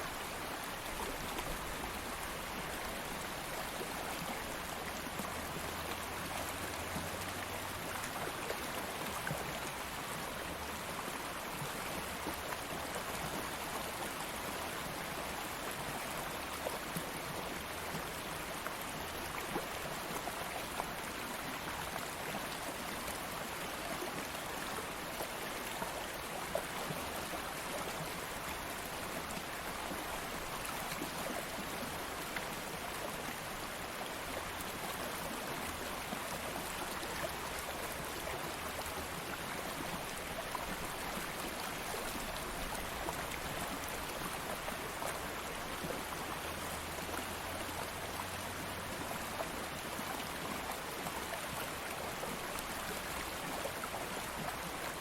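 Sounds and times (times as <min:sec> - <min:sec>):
water flowing over stones: 0:00.0 - 0:55.0.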